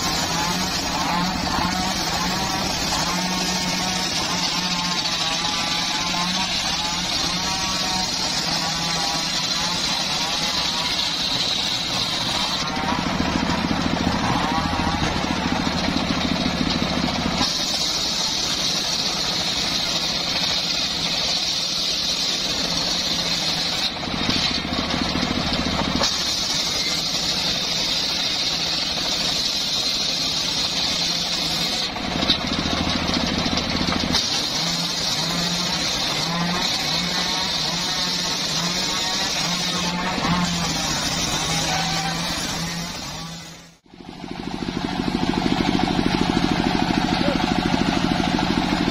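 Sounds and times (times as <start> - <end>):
engine droning: 0.0 - 21.3, 22.4 - 48.9
circular saw blade ripping timber: 0.0 - 43.9
high-pitched blade whine: 0.0 - 48.9.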